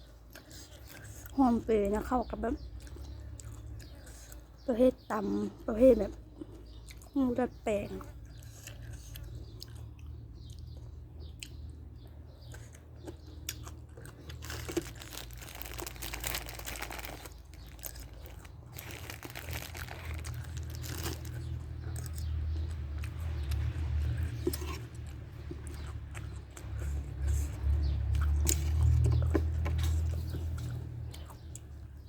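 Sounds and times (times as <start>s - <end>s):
person chewing crisp food: 0.0s - 1.4s, 2.7s - 4.6s, 6.2s - 7.2s, 8.1s - 32.0s.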